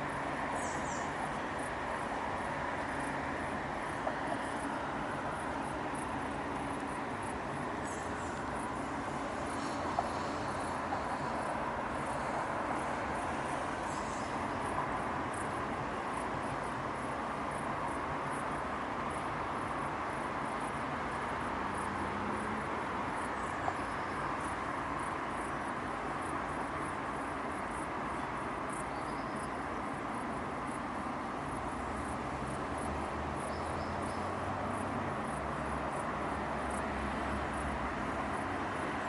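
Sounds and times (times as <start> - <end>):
city traffic hum: 0.0 - 39.0.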